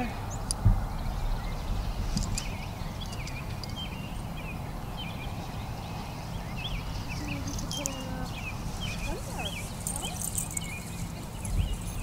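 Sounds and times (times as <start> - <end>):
songbirds warbling: 0.0 - 12.0
steady low rumble: 0.0 - 12.0.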